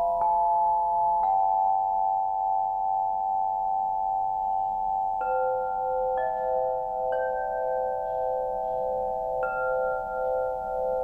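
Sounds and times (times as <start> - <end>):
crystal harp notes ringing: 0.0 - 11.0.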